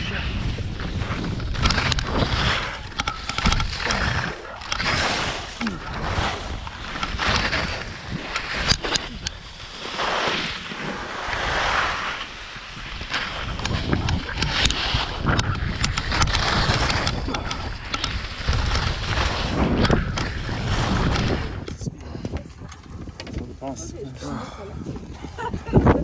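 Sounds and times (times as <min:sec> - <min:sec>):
skis scraping over snow: 0:00.0 - 0:21.9
wind rumbling on microphone: 0:00.0 - 0:26.0.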